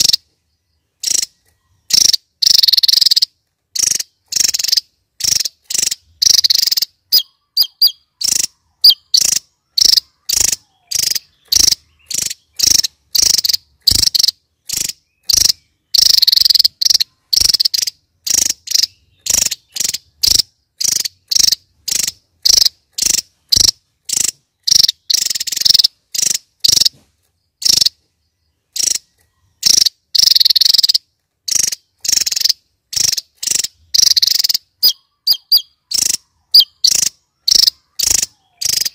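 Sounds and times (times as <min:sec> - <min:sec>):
bird singing high phrases: 0:00.0 - 0:38.9.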